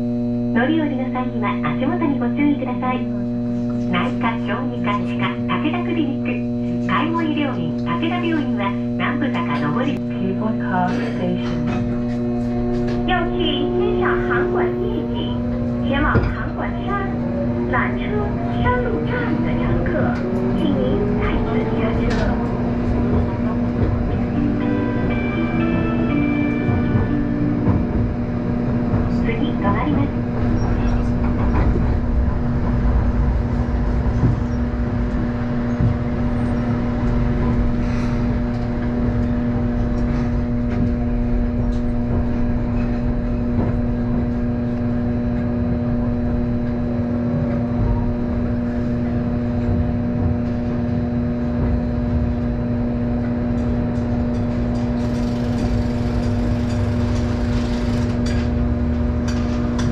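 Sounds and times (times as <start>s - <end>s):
constant hum: 0.0s - 59.9s
tram wheels rumbling: 0.0s - 59.9s.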